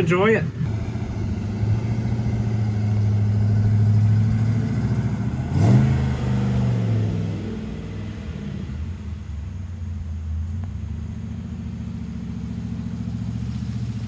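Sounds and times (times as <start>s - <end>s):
race car engine driving off: 0.6s - 14.0s.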